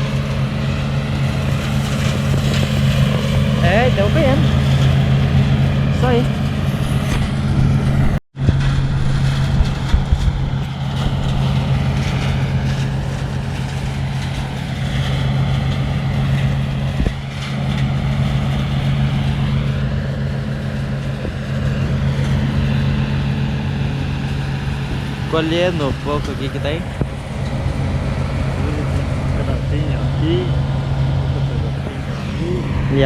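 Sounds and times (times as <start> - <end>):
combine harvester engine drone: 0.0 - 33.0.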